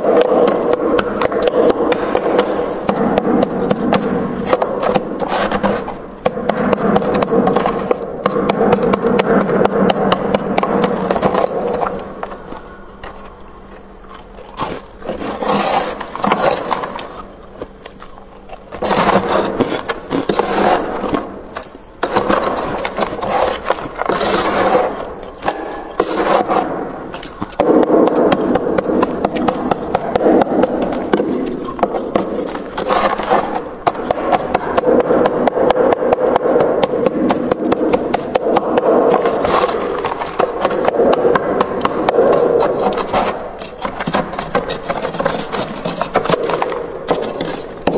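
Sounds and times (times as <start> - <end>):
freezer frost being scraped: 0.0 - 12.8, 13.7 - 47.9.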